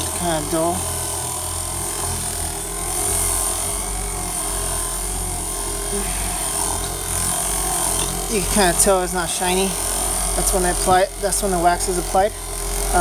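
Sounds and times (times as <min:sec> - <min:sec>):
car polisher motor hum: 0:00.0 - 0:13.0.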